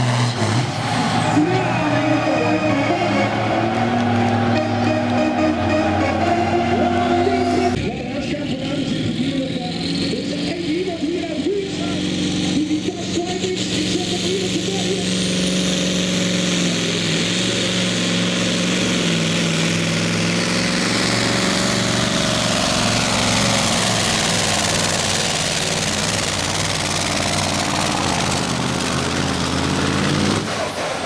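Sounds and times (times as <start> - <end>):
truck engine running flat out: 0.0 - 31.0.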